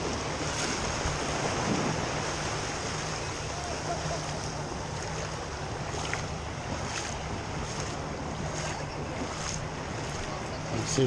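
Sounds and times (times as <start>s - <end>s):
small waves washing ashore: 0.0s - 11.0s
wind rumble on microphone: 0.0s - 11.0s.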